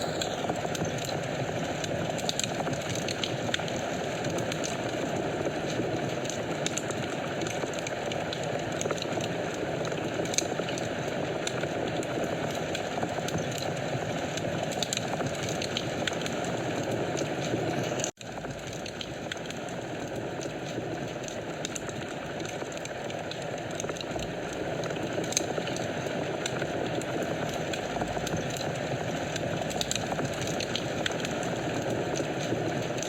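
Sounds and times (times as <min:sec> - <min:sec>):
fire crackling in fireplace: 0:00.0 - 0:33.0.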